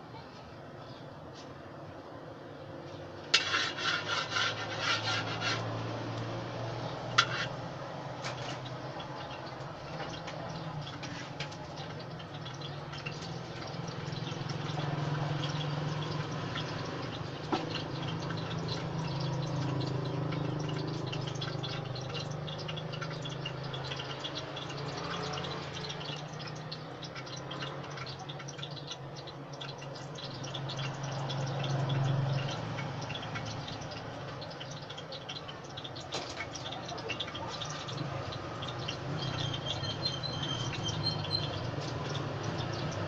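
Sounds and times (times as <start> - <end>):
oil sizzling in a wok: 3.3 - 43.0.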